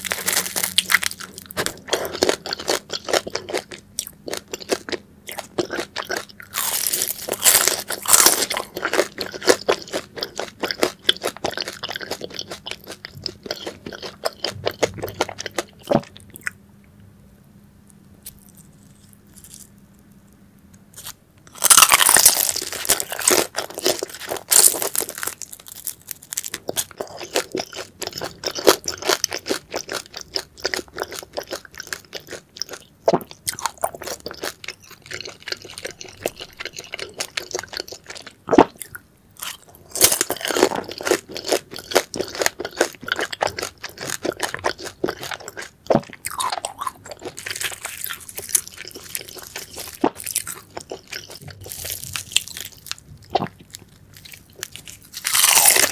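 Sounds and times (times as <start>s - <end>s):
crunching and chewing food: 0.0s - 16.6s, 17.9s - 20.3s, 20.9s - 55.9s.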